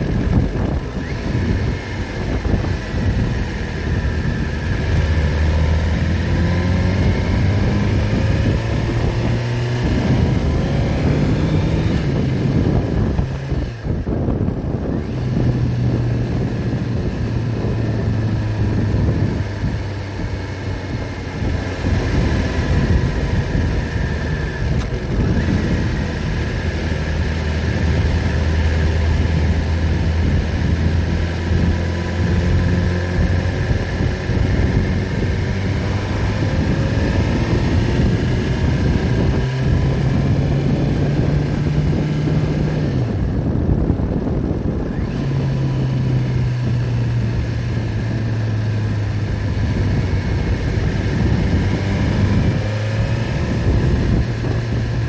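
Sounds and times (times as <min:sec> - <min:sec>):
heavy engine running: 0:00.0 - 0:55.0.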